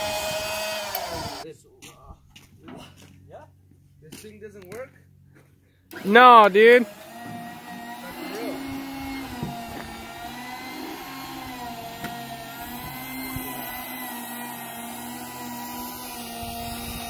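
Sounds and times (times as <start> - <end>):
engine humming drone: 2.4 - 17.0.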